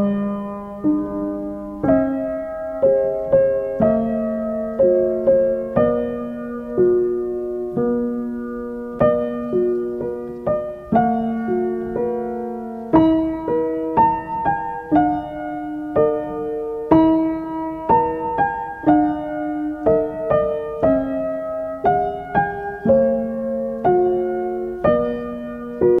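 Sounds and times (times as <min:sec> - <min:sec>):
gentle piano music: 0:00.0 - 0:26.0.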